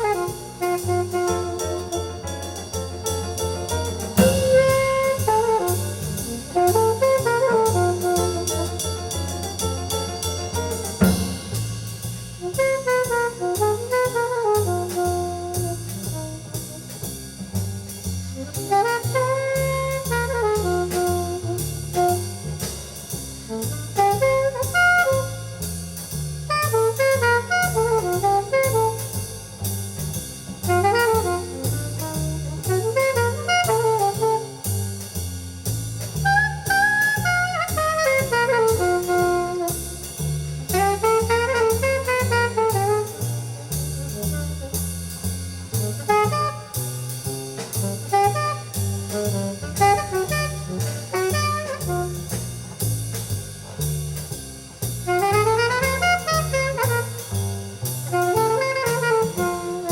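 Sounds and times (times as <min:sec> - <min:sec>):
jazz with saxophone lead: 0:00.0 - 0:59.9.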